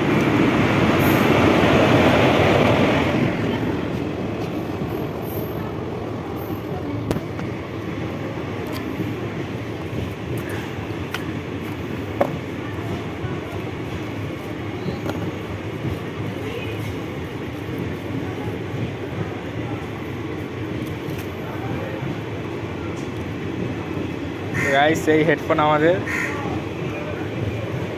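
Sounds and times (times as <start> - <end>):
vehicle rumbling: 0.0 - 27.9.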